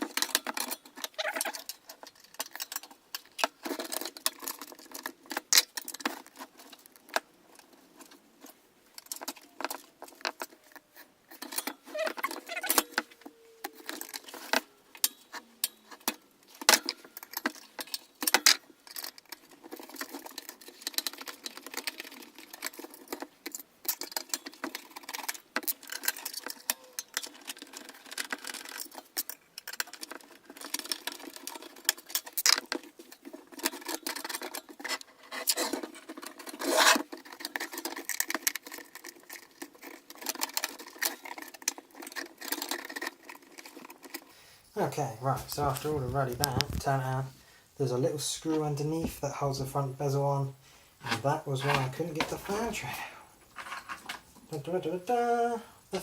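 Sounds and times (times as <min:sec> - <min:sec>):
screws and case parts rattling: 0:00.0 - 0:44.5, 0:45.2 - 0:47.6, 0:50.9 - 0:55.9.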